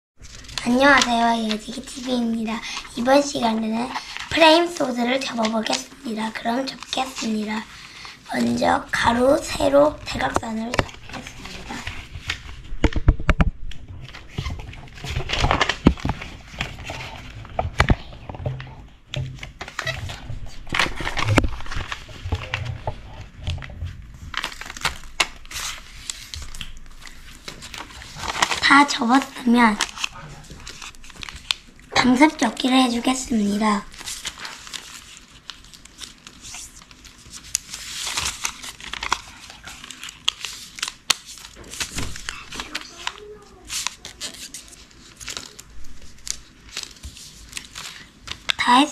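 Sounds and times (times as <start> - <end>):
paper rustling and crinkling: 0.2 - 48.9.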